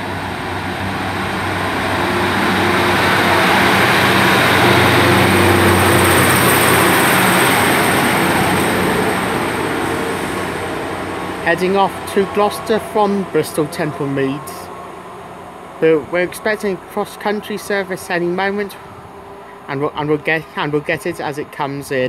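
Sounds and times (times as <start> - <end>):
diesel train engine drone: 0.0 - 22.0.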